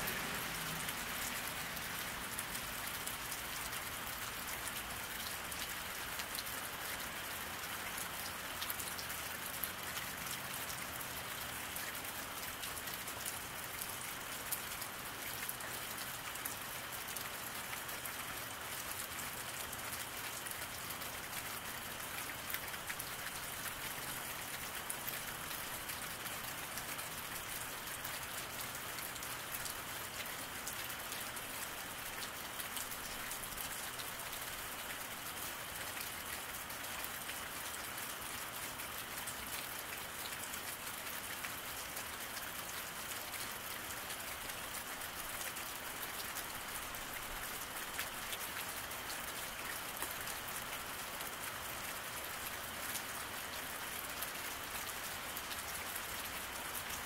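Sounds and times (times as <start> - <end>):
rain falling on wet road: 0.0 - 57.0.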